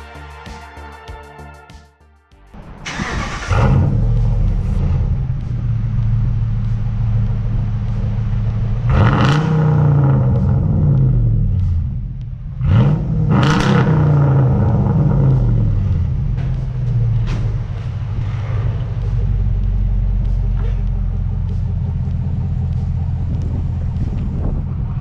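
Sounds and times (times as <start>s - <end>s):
car engine idling with deep rumble: 2.6s - 25.0s
engine revving: 2.6s - 25.0s.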